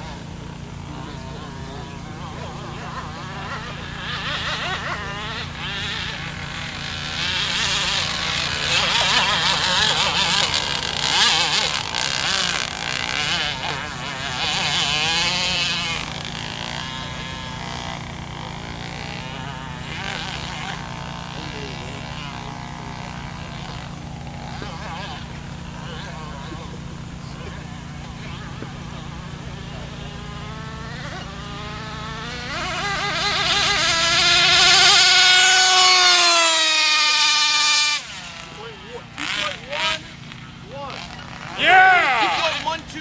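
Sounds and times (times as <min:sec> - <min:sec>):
model boat engine warbling: 0:00.0 - 0:43.0.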